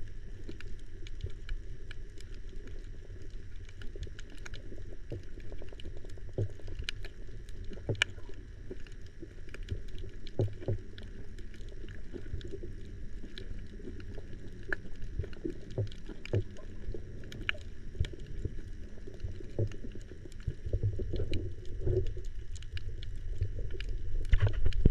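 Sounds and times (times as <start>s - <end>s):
muffled underwater rumble: 0.0s - 24.9s
underwater clicks and crackles: 0.0s - 24.9s.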